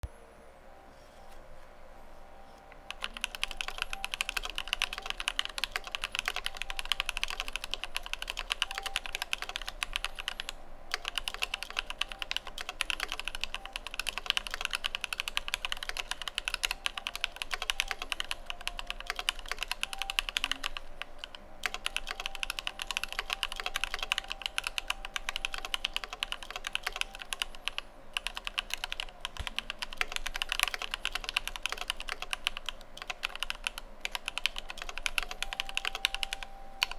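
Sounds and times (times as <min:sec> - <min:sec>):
typing on mechanical keyboard: 0:02.8 - 0:36.9.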